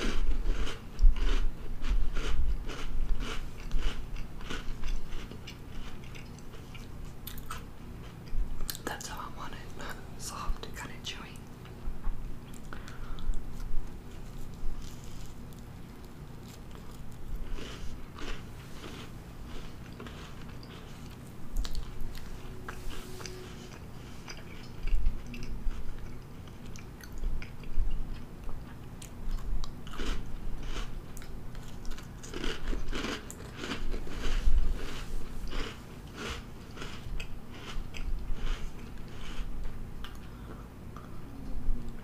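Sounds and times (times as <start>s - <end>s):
crunchy cookie chewing: 0.0s - 10.0s, 11.6s - 41.2s.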